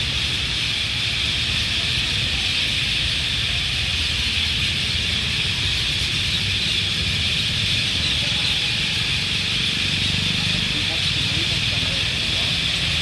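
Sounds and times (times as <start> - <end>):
flock of parrots calling: 0.0 - 13.0.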